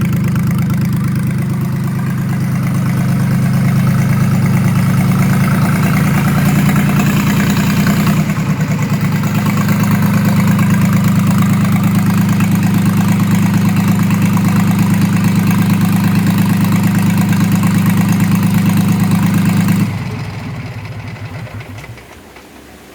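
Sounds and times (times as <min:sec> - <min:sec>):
marine diesel engine running: 0:00.0 - 0:22.9.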